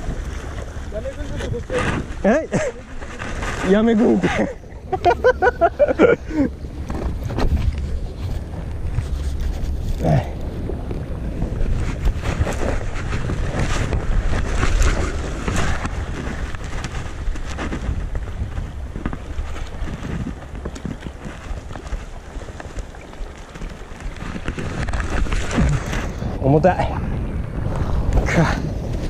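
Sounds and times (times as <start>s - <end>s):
sea washing against rocks: 0.0s - 29.0s
wind buffeting microphone: 0.0s - 29.0s.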